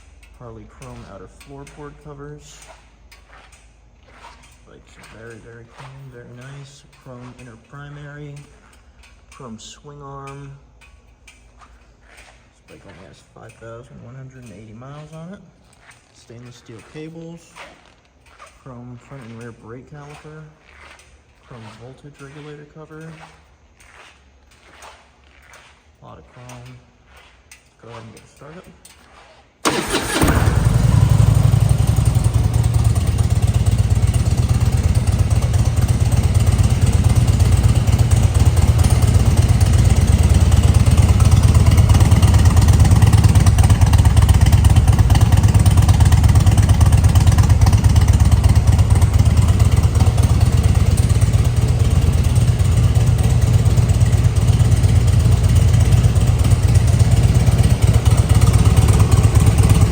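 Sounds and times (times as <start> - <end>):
motorcycle engine starting and idling: 0.0 - 59.9.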